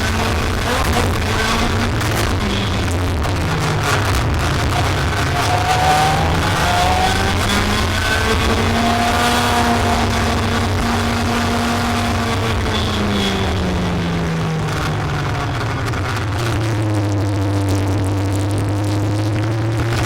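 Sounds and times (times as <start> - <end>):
racing vehicle motor: 0.0 - 20.0.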